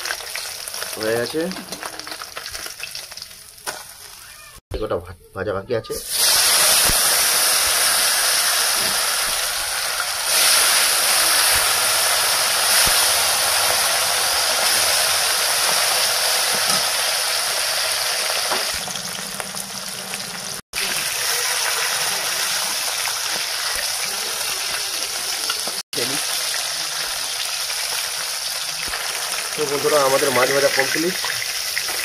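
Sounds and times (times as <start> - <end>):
fish sizzling in hot oil: 0.0 - 4.6, 6.0 - 32.0.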